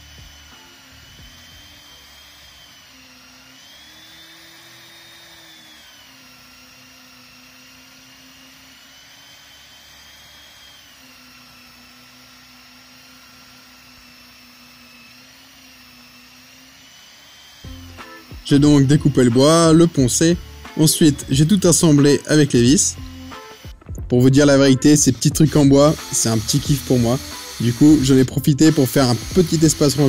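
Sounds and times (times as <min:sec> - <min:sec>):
belt sander whining: 0:00.0 - 0:30.0.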